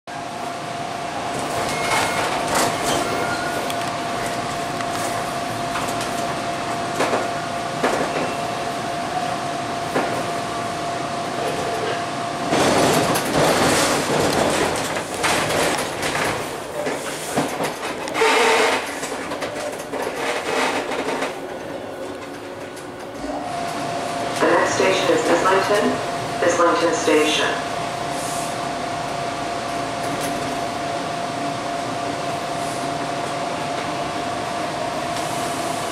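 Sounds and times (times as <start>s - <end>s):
train wheels on rails: 1.2s - 27.5s, 32.0s - 35.9s.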